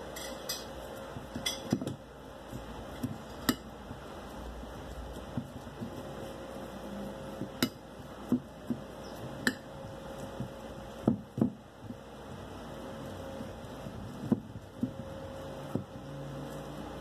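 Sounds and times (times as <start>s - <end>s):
spoon mashing potato: 0.3s - 17.0s.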